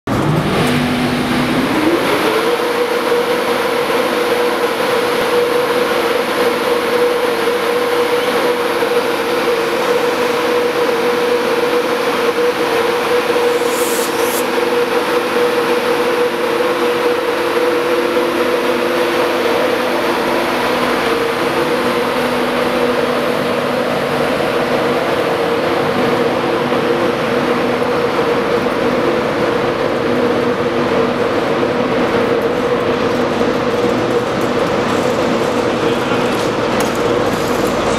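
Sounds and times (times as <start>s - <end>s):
electric locomotive humming: 0.1s - 37.9s.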